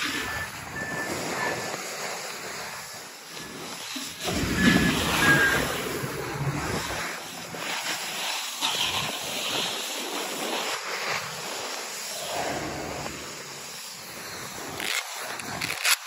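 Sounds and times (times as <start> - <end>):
wind rushing over microphone: 0.0 - 14.8
ski edges scraping snow: 0.0 - 16.0.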